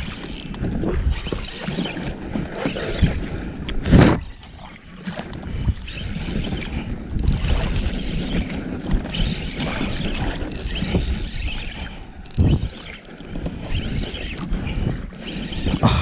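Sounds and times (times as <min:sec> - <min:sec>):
water lapping against boat hull: 0:00.0 - 0:16.0
wind buffeting microphone: 0:00.0 - 0:16.0.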